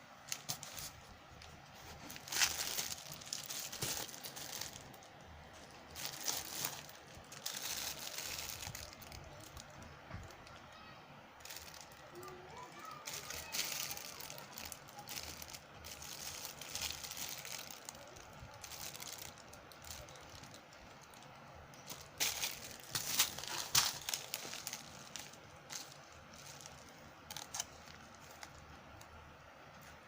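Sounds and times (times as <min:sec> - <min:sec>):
packaging crinkling and rustling: 0:00.2 - 0:10.6, 0:11.4 - 0:29.2.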